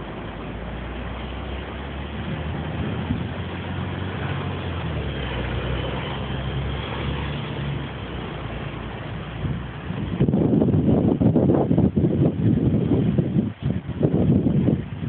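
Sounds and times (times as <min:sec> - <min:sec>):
road noise hiss: 0:00.0 - 0:15.0
vehicle engine humming: 0:00.0 - 0:15.0.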